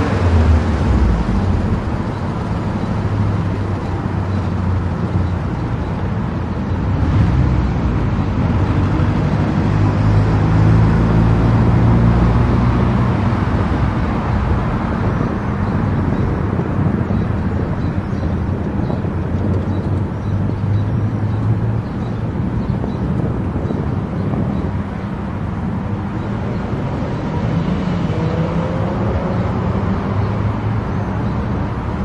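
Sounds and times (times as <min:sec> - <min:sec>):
low engine drone: 0:00.0 - 0:32.0.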